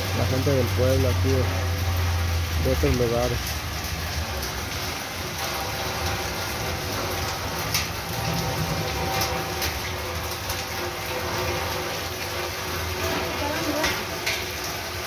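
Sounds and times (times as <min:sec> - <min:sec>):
heavy rain on a metal roof: 0:00.0 - 0:15.0
rain on wet street: 0:00.0 - 0:15.0
sharp raindrop hits: 0:00.0 - 0:15.0.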